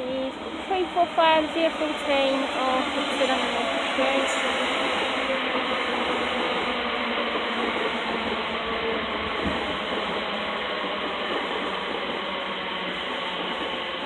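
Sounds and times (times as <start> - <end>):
electric train running: 0.0 - 14.0.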